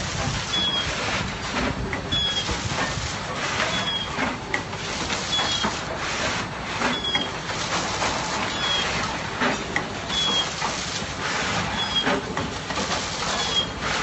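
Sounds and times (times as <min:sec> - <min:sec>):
packaging machine mechanical noise: 0:00.0 - 0:14.0.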